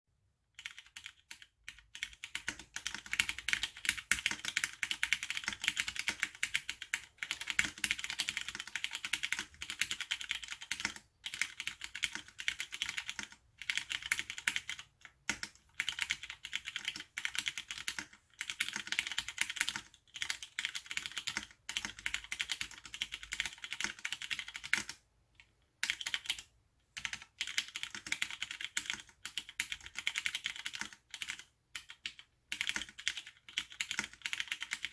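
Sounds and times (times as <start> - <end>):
mechanical keyboard typing: 0.5 - 34.9.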